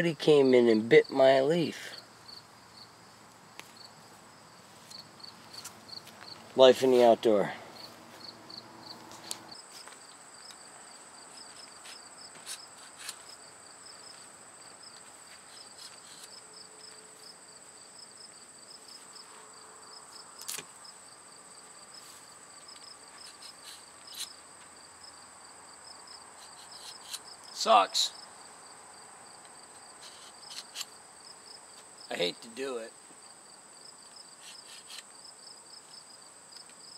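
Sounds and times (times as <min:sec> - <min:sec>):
crickets chirping: 0:00.1 - 0:36.9
high cricket trill: 0:00.1 - 0:36.9.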